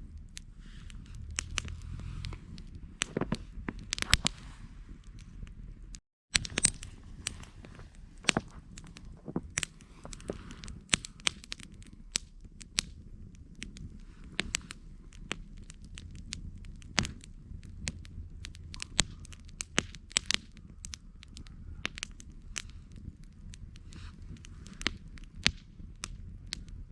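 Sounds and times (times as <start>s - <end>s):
low rumble of flames: 0.0s - 26.9s
wood crackling and popping: 0.0s - 26.9s.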